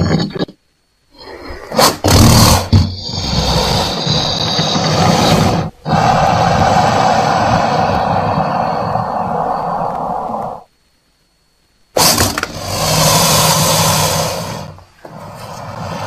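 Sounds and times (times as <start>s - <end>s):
crocodile roaring: 1.2s - 10.7s, 12.0s - 16.0s.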